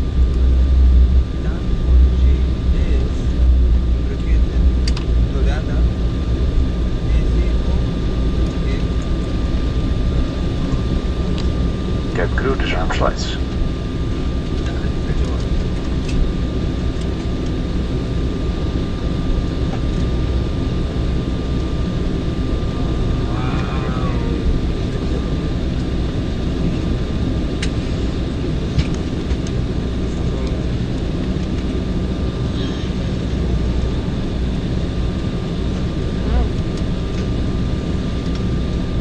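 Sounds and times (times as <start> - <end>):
jet engines idling rumble: 0.0 - 39.0.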